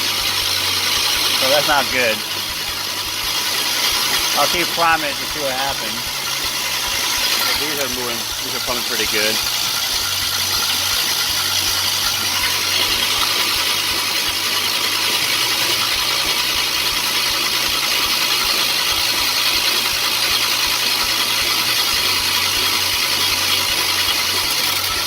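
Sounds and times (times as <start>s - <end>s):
starter motor cranking engine: 0.0s - 25.0s.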